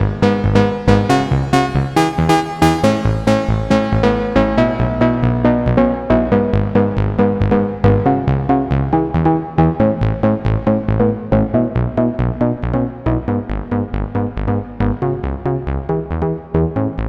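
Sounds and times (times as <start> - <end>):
synth bass line: 0.0 - 17.0
synthesizer plucked sequence: 0.0 - 17.0.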